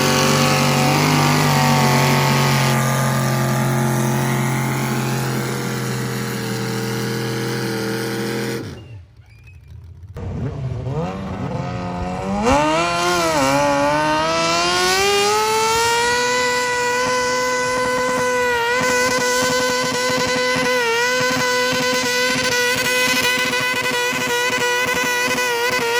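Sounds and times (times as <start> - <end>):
engine revving at full throttle: 0.0 - 9.0, 10.2 - 25.9
steady engine note: 0.0 - 9.2, 10.0 - 25.9.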